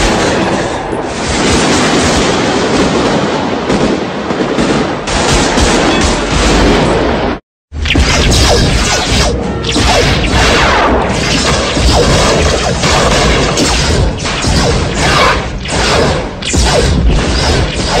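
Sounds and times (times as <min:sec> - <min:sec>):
gunfire crashes and booms: 0:00.0 - 0:18.0.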